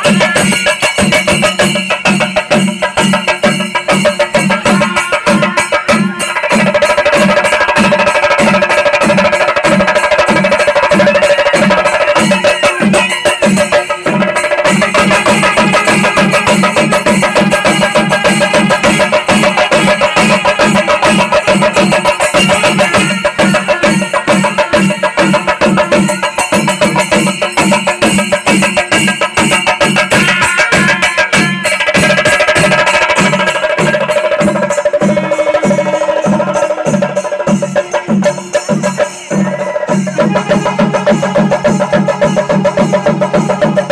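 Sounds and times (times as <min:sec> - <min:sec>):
drums beaten with sticks: 0:00.0 - 0:43.9
hand cymbals: 0:00.0 - 0:43.9.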